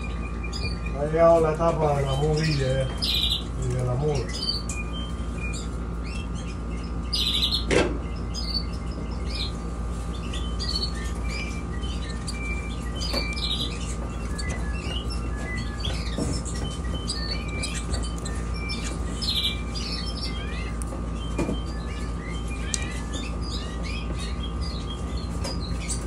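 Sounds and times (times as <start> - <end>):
steady background hum: 0.0 - 26.0
young canaries chirping: 0.0 - 26.0.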